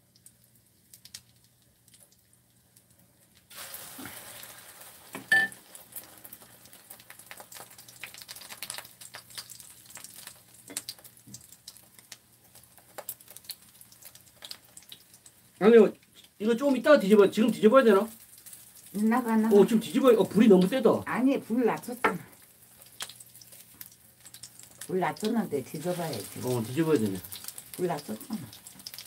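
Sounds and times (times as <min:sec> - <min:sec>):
battered food sizzling in oil: 0:00.0 - 0:29.0.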